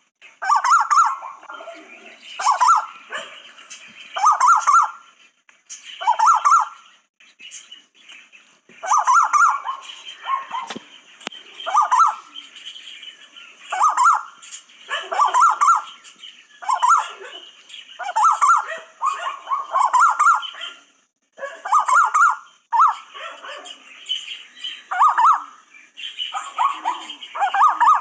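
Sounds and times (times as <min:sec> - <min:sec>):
bird warbling calls: 0:00.4 - 0:05.2, 0:05.8 - 0:07.7, 0:08.8 - 0:28.0.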